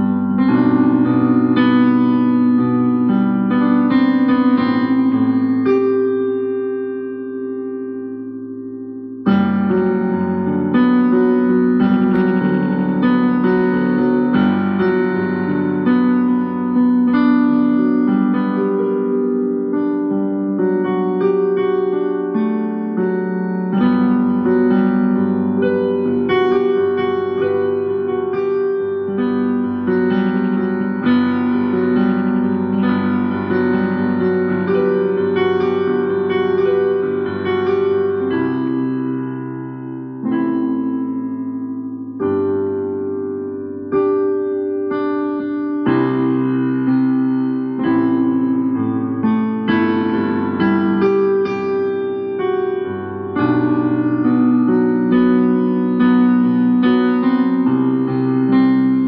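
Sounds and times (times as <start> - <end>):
electric piano chords: 0.0 - 59.0.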